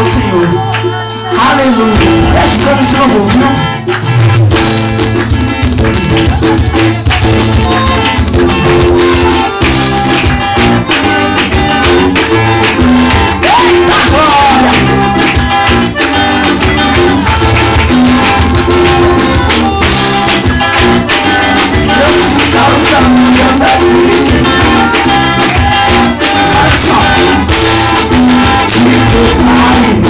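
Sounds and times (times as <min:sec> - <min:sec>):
gospel band music: 0:00.0 - 0:30.0
rhythmic percussion: 0:00.0 - 0:30.0.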